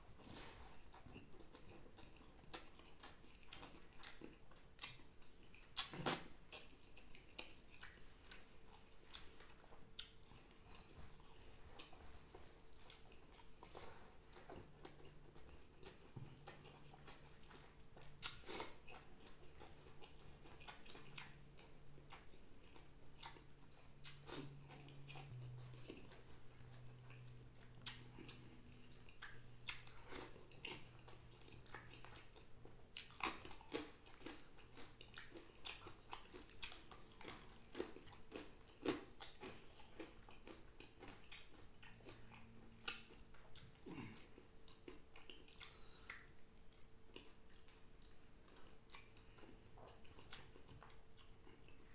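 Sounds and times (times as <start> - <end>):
man chewing: 0.1 - 51.9.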